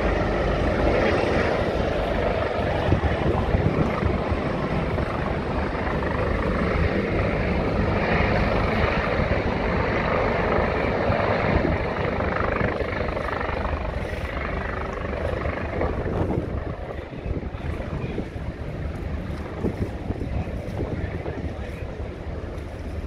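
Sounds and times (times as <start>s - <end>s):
helicopter rotor and turbine: 0.0s - 23.0s.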